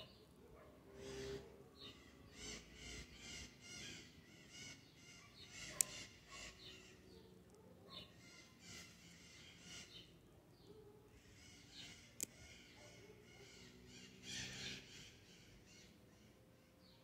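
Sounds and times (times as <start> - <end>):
birds calling harshly: 0.0 - 17.0.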